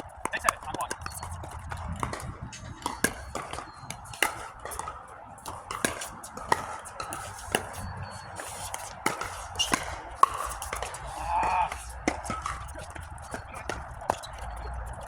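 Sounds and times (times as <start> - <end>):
ball bouncing ticks: 0.0 - 15.0.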